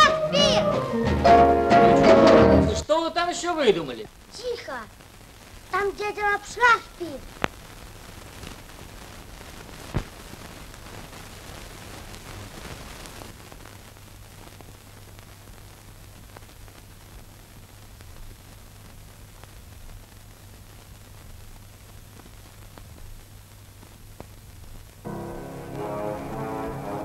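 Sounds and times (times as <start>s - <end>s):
film soundtrack hiss and hum: 0.0s - 27.0s.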